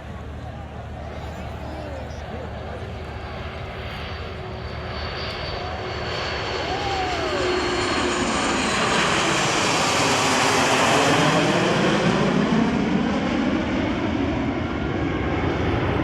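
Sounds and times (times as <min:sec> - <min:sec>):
aircraft flying overhead: 0:00.0 - 0:16.0.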